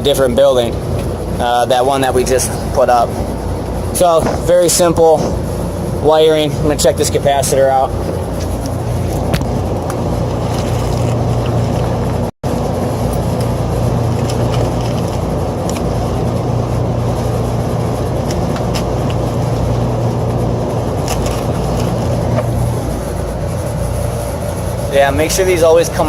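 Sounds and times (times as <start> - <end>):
machine drone with low hum: 0.0 - 26.0.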